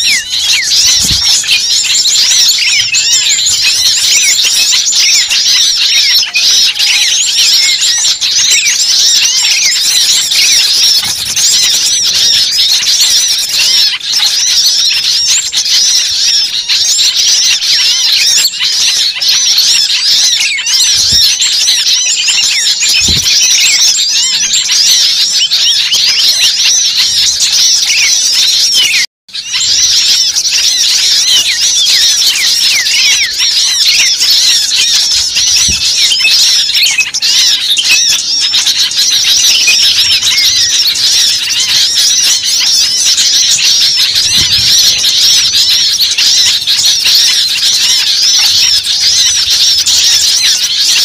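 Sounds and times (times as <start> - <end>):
flock of birds chirping: 0.0 - 51.0.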